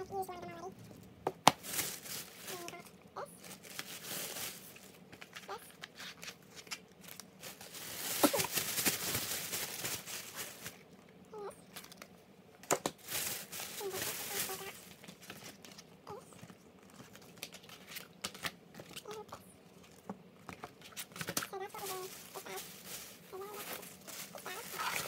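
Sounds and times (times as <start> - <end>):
plastic bag crinkling: 0.8 - 12.0, 12.7 - 25.0.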